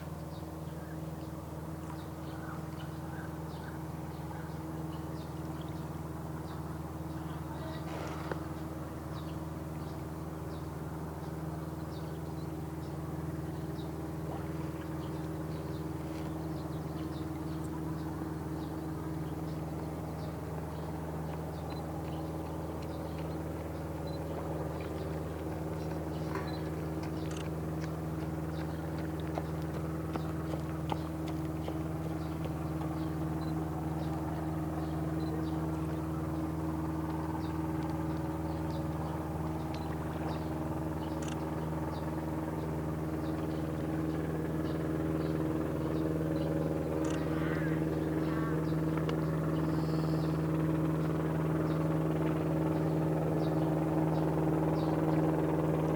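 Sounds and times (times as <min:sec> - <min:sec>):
low engine hum: 0:00.0 - 0:55.9.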